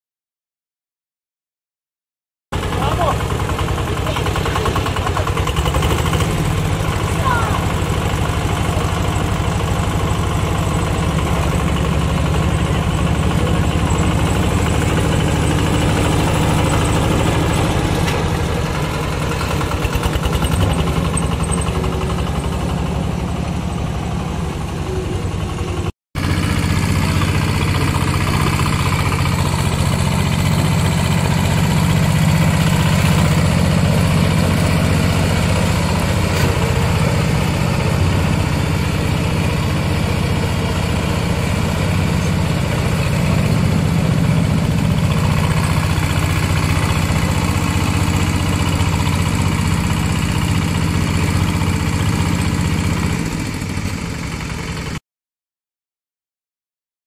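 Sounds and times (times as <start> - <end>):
diesel engine running: 2.5 - 55.0.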